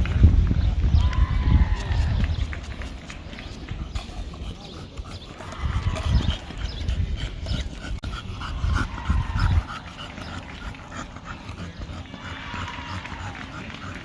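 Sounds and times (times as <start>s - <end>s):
dog panting: 2.7s - 14.0s.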